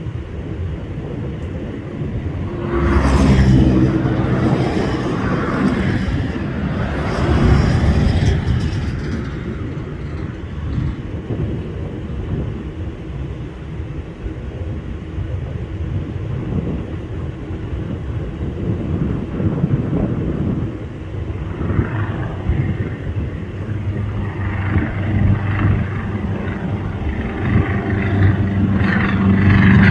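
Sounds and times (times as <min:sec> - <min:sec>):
propeller plane engine droning overhead: 0:00.0 - 0:29.9.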